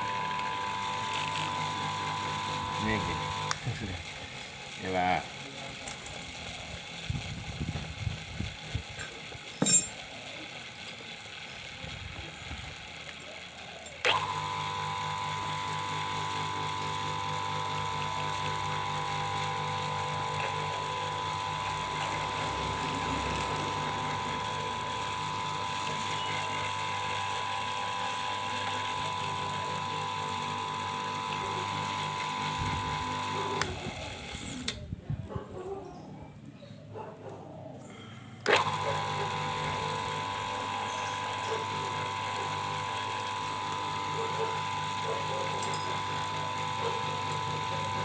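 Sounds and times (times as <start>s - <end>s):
lathe motor whining: 0.0s - 34.8s, 38.4s - 48.0s.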